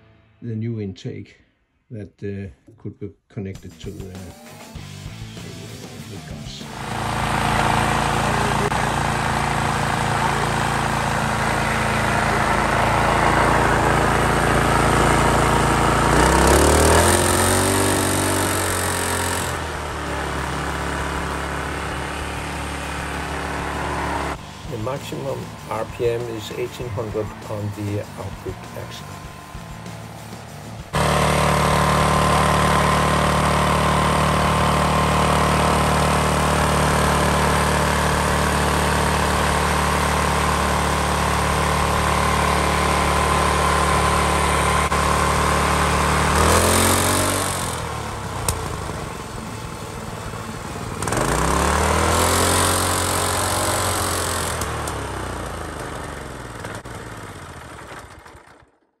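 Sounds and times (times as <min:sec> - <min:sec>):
small engine running: 0:04.0 - 0:59.0.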